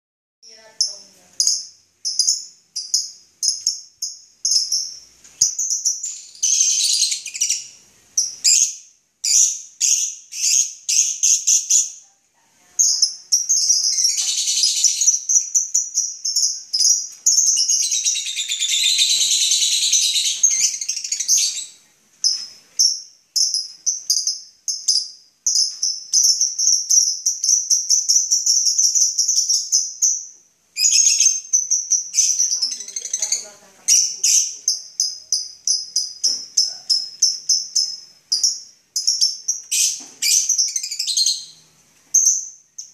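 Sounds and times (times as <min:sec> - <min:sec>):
bird trill: 0:00.5 - 0:12.0, 0:12.8 - 0:42.9
lovebirds chattering: 0:00.5 - 0:42.9
lovebirds chirping: 0:00.5 - 0:42.9.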